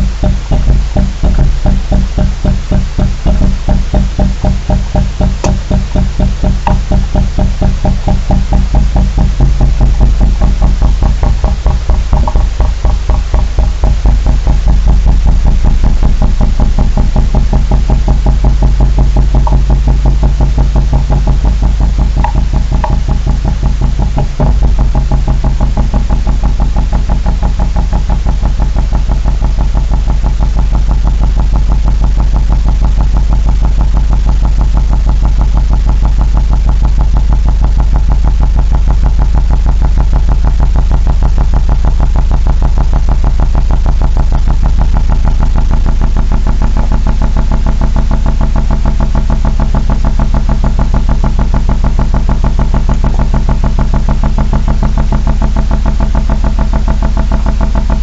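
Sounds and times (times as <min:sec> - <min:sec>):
machine humming and pulsing: 0:00.0 - 0:58.0.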